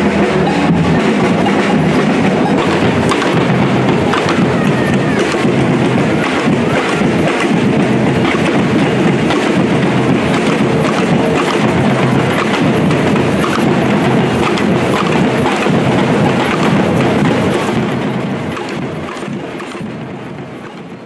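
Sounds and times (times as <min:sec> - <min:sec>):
drum band playing: 0:00.0 - 0:21.0.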